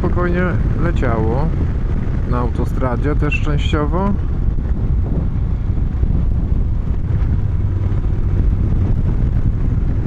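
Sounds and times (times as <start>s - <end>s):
motorcycle engine rumbling: 0.0s - 10.0s
wind rushing over microphone: 0.0s - 10.0s.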